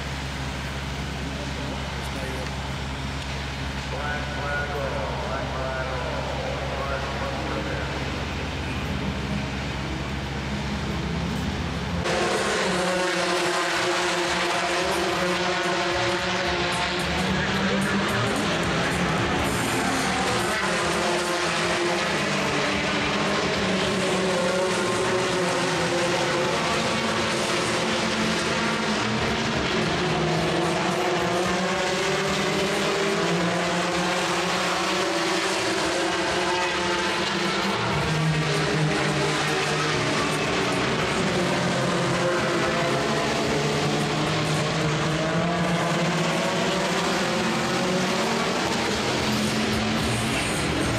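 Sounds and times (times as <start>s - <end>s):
race car engine running: 0.0s - 50.9s.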